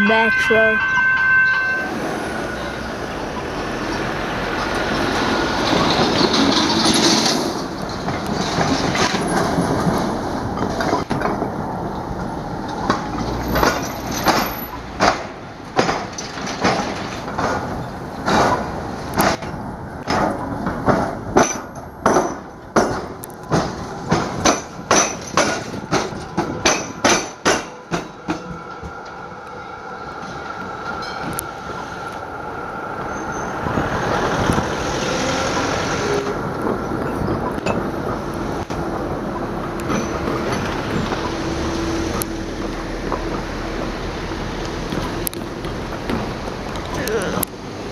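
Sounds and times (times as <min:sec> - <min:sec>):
train wheels clanking over crossing: 0:00.8 - 0:11.6, 0:12.2 - 0:32.2, 0:33.0 - 0:46.9.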